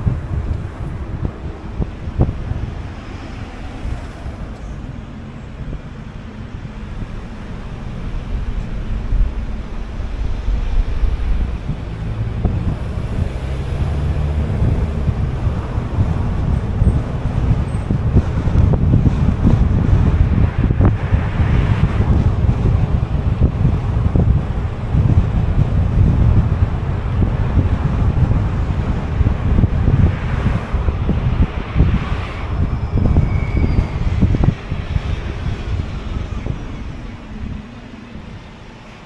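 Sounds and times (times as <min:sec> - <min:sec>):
road and engine rumble: 0:00.0 - 0:39.0
wind buffeting microphone: 0:00.0 - 0:39.0.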